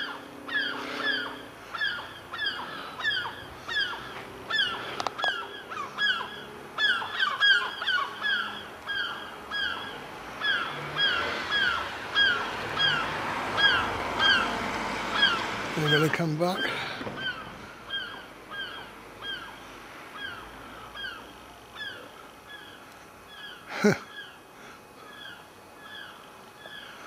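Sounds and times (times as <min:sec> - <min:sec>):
gulls calling: 0:00.0 - 0:27.0.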